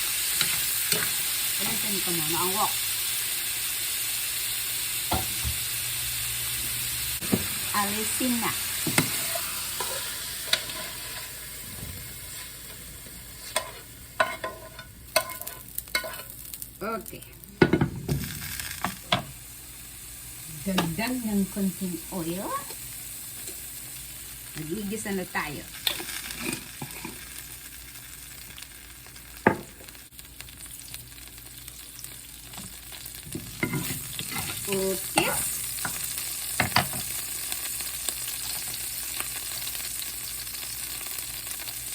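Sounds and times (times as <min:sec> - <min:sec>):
chicken sizzling in oil: 0:00.0 - 0:41.9.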